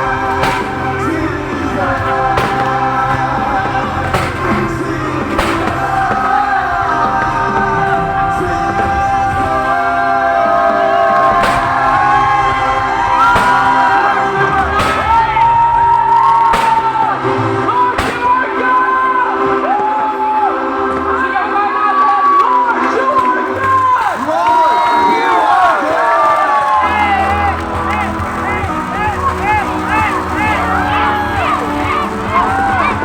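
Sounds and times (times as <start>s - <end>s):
fireworks bangs: 0.0s - 33.0s
pop song with singing: 0.0s - 33.0s.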